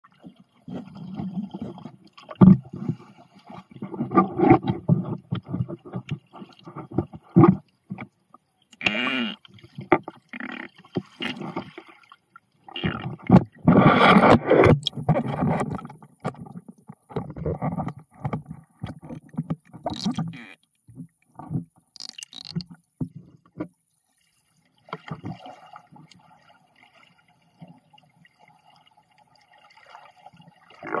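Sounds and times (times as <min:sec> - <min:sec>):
water sloshing and gurgling: 0:00.0 - 0:31.0.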